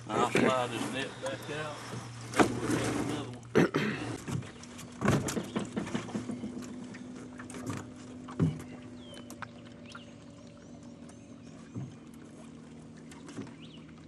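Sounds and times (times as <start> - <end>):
knocks and thumps in boat: 0.0 - 14.0
steady low hum: 0.0 - 14.0.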